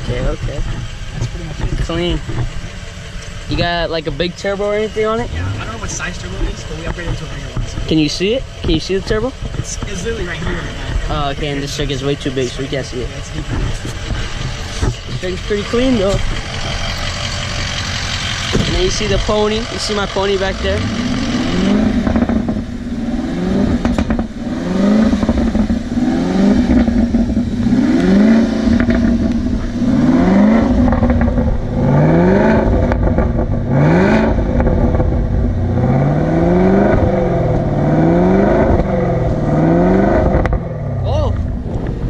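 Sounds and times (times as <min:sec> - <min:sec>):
engine revving: 0:00.0 - 0:42.0.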